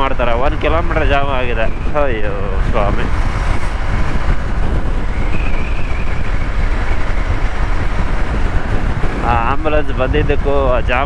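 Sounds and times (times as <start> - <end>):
motorcycle engine: 0.0 - 11.0
road noise: 0.0 - 11.0
wind on microphone: 0.0 - 11.0.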